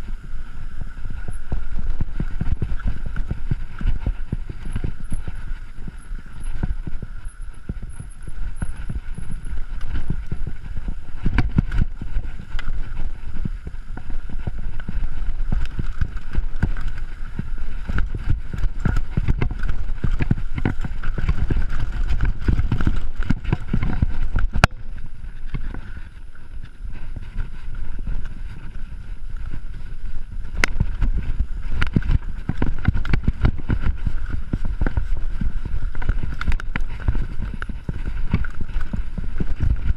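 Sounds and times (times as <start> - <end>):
bike rattling over bumps: 0.0 - 39.9
bike tyres rumbling over dirt: 0.0 - 39.9.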